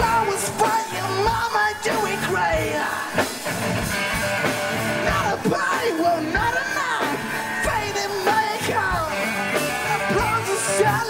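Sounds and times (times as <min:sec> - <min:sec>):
man singing: 0:00.0 - 0:03.4, 0:05.0 - 0:11.0
live rock band playing: 0:00.0 - 0:11.0.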